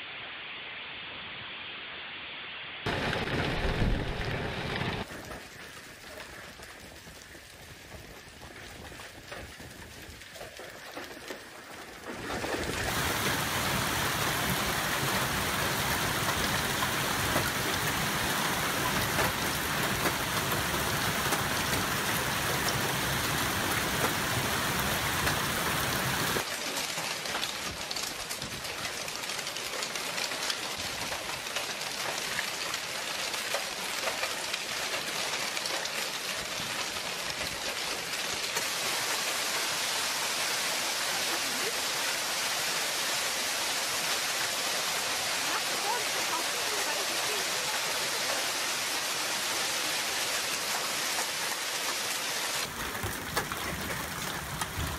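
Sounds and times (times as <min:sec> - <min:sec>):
hailstones ticking on paving: 0:02.9 - 0:42.8, 0:43.4 - 0:54.9
hailstones pelting the ground: 0:02.9 - 0:54.9.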